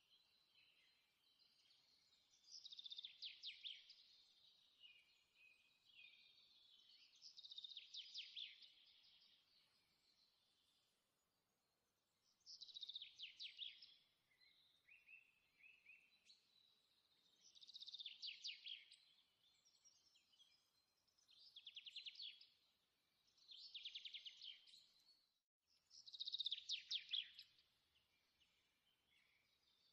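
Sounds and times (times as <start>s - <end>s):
soft bird chirps: 0.0s - 29.9s.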